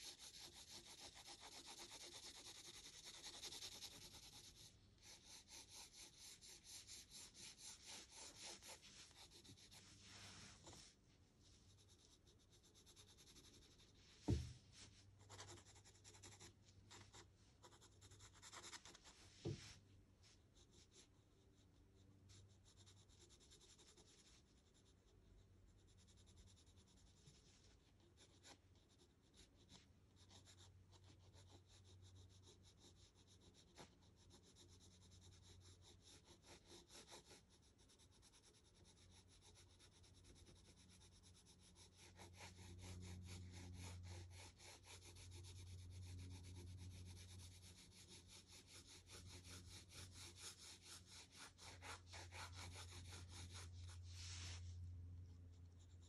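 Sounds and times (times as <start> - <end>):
pencil scratching on paper: 0.0 - 19.7, 20.6 - 54.7, 55.6 - 56.0.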